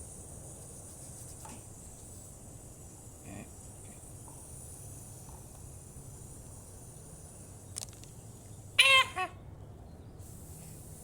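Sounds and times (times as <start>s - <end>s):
high-pitched hiss: 0.0s - 8.8s, 10.2s - 11.0s.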